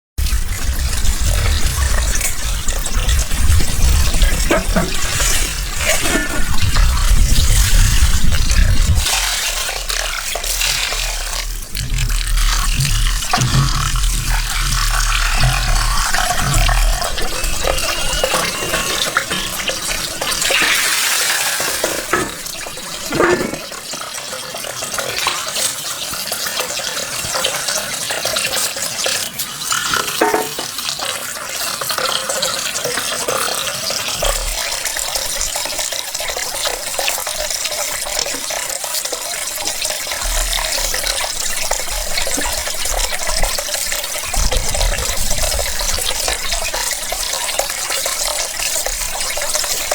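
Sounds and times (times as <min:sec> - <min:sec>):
water running and splashing: 0:00.2 - 0:49.9.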